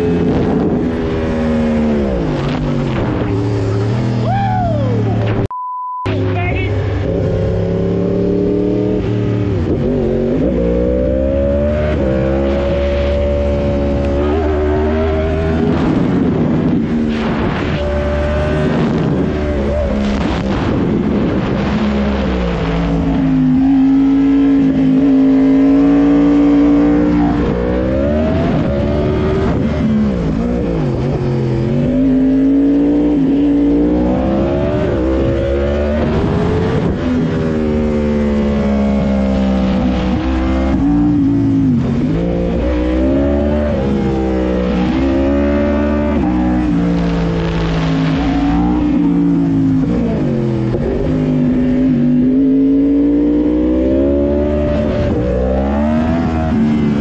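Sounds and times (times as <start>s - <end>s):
motorcycle engine revving: 0.0s - 5.4s, 6.1s - 57.0s.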